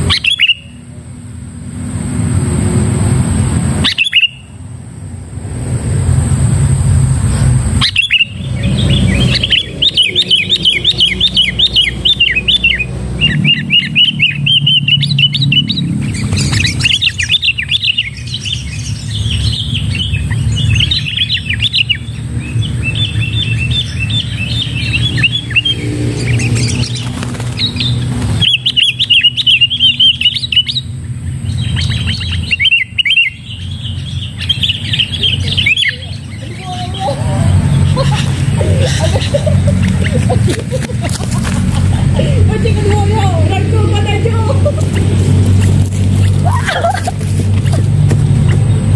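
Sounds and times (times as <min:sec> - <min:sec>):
bulbuls chattering chirps: 0:00.0 - 0:01.2, 0:03.8 - 0:04.6, 0:07.6 - 0:48.9.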